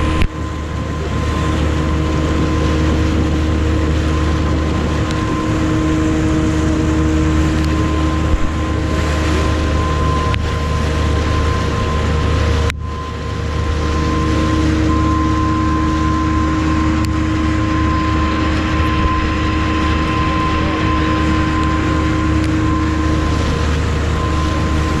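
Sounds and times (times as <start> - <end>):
boat engine humming: 0.0 - 25.0
held tone: 0.0 - 25.0.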